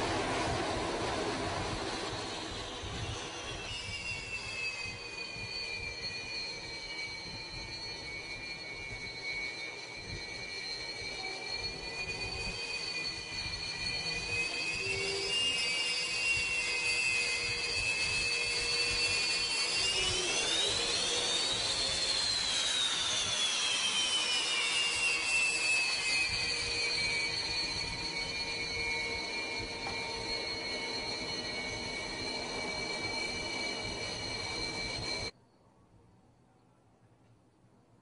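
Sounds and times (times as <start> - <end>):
turbine engine whining: 0.0 - 35.4.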